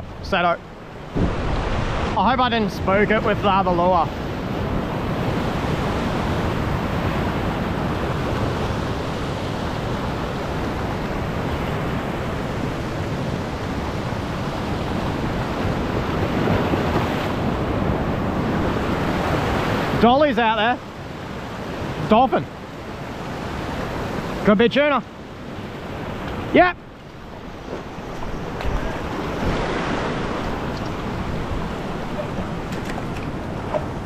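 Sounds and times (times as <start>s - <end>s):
surf washing over rocks: 0.0s - 34.0s.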